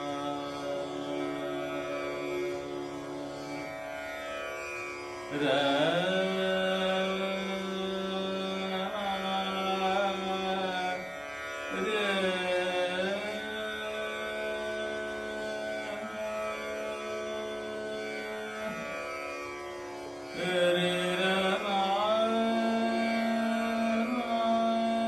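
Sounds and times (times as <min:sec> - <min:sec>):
tanpura drone: 0:00.0 - 0:25.0.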